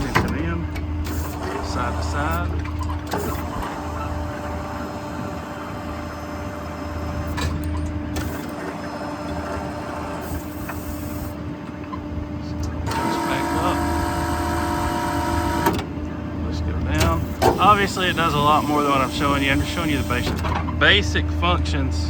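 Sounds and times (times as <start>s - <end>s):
crane machinery drone and whine: 0.0s - 22.0s.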